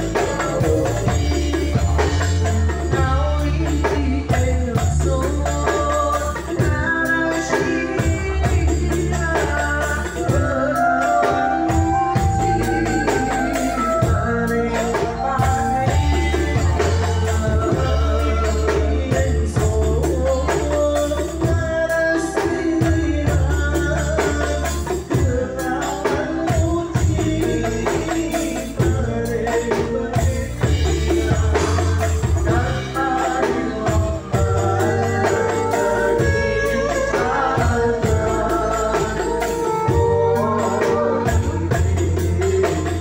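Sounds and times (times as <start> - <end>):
band playing steady beat: 0.0 - 43.0
boy singing into microphone: 0.0 - 43.0
frame drums: 0.0 - 43.0.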